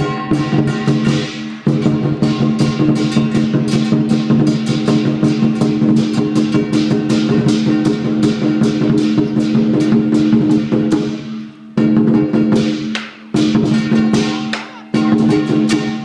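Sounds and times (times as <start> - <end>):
cymbals clashing: 0.0 - 16.0
drum beating: 0.0 - 16.0.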